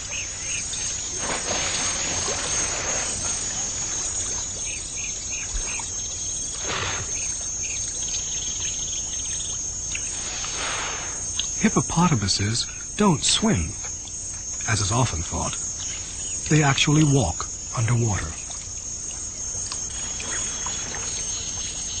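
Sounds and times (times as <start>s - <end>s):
water splashing: 0.0s - 12.4s, 16.5s - 22.0s
high insect trill: 0.0s - 22.0s.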